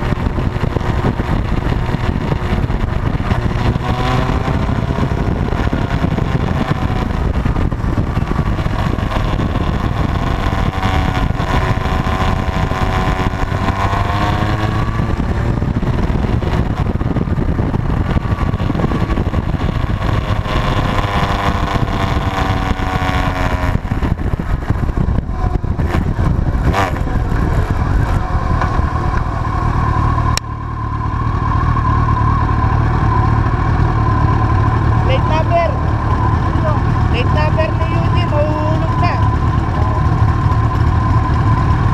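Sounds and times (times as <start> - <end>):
motorcycle engines: 0.0 - 41.9.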